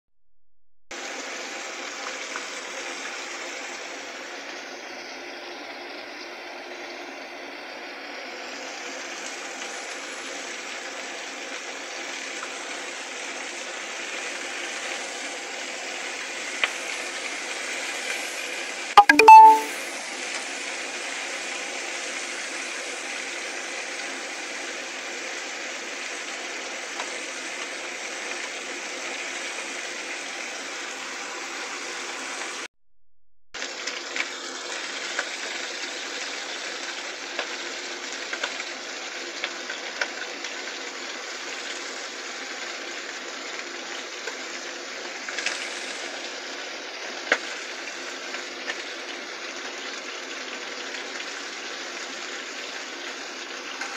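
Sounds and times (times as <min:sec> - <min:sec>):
chicken frying in oil: 0:00.9 - 0:32.7, 0:33.6 - 0:53.9.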